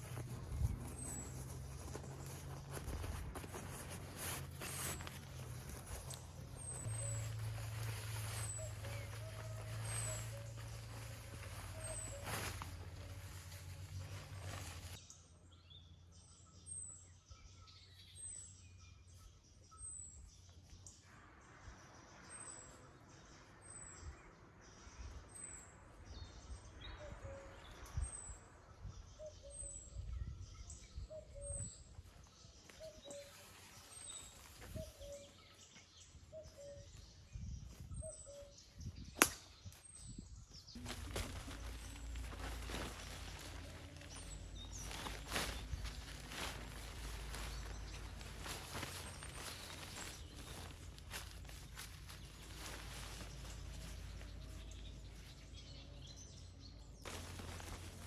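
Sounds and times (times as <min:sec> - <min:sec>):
faint outdoor ambience: 0:00.0 - 0:58.0.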